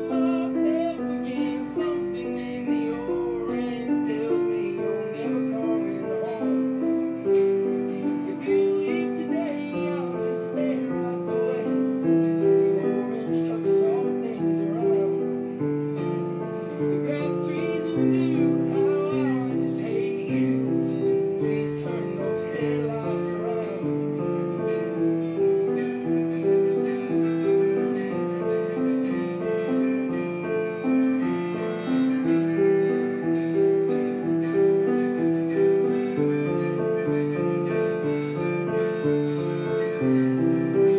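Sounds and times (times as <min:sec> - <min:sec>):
guitar: 0:00.0 - 0:40.9
piano broken chords: 0:00.0 - 0:40.9.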